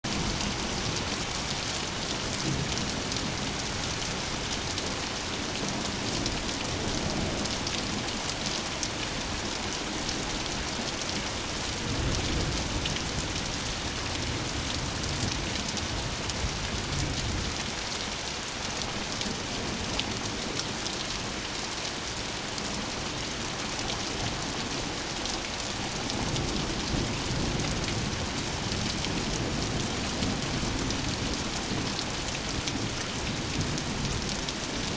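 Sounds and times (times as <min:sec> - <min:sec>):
heavy rain pattering: 0:00.1 - 0:34.9.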